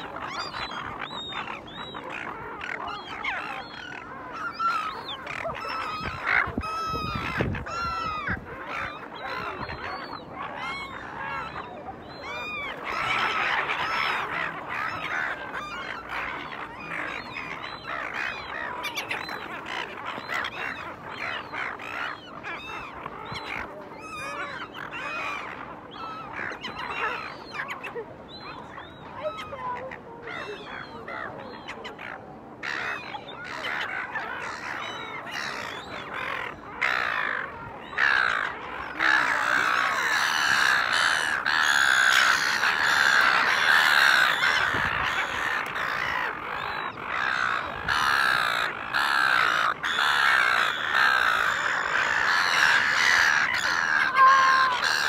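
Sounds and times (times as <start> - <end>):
gulls squawking: 0.0 - 55.0.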